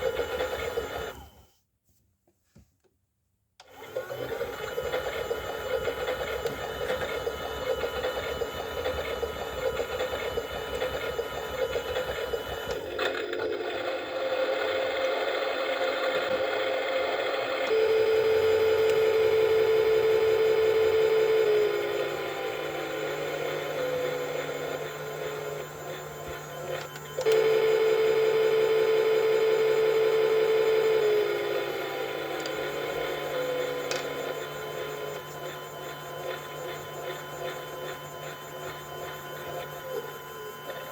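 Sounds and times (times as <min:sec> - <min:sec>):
small electric motor whining: 0:00.0 - 0:01.4, 0:03.6 - 0:40.9.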